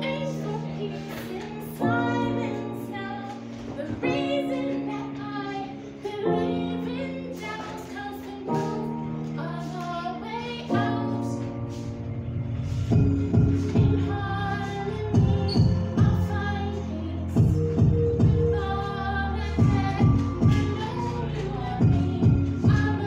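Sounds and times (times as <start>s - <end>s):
woman singing: 0.0s - 11.9s, 13.2s - 23.0s
backing music with held chords: 0.0s - 23.0s.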